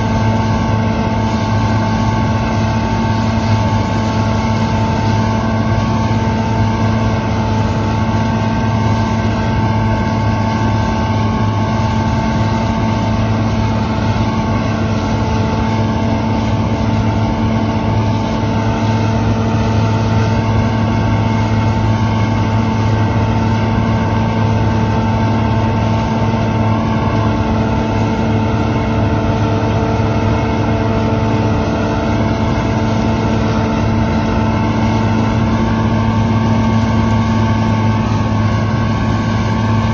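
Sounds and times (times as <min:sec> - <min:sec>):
combine harvester droning: 0:00.0 - 0:39.9
steady machine whine: 0:00.0 - 0:39.9.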